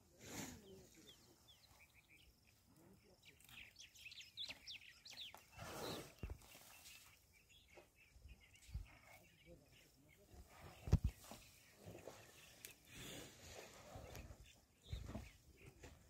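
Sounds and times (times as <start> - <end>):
bird chirping: 0.6 - 16.0.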